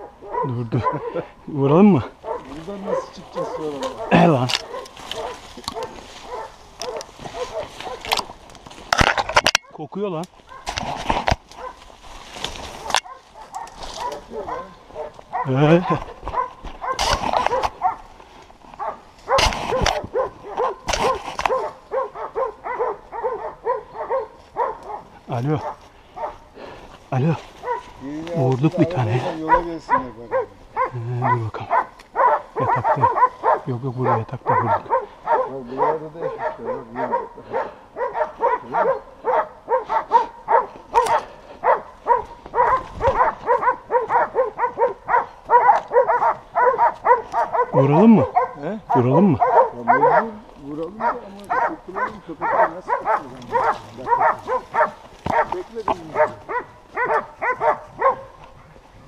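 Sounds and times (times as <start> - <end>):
hunting dogs barking: 0.0 - 59.0.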